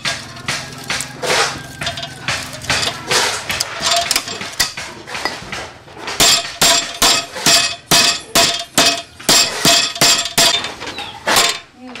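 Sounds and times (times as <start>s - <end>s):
hammer striking metal frame: 0.0s - 11.8s.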